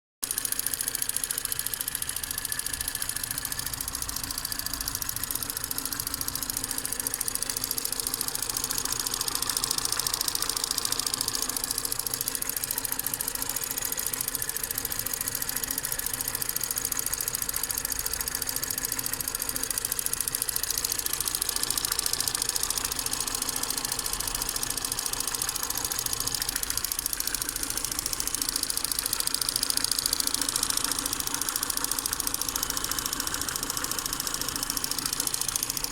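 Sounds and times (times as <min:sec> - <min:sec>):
car engine running: 0:00.2 - 0:35.9
fast engine ticking: 0:00.2 - 0:35.9.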